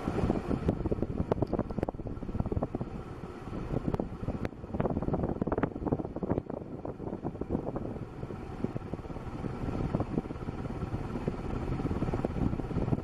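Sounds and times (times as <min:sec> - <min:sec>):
fan draught buffeting microphone: 0:00.0 - 0:13.0.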